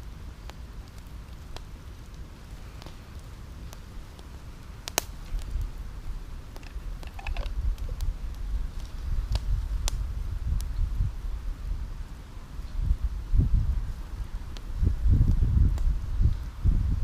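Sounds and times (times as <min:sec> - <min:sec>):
campfire coals crackling and popping: 0:00.0 - 0:17.0.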